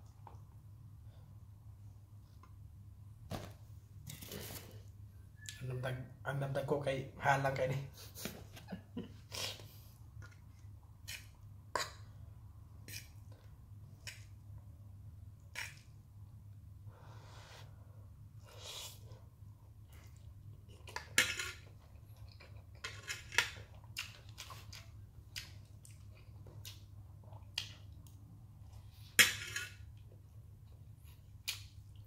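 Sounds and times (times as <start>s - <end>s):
soft eating noises: 0.0s - 2.8s, 7.5s - 32.0s.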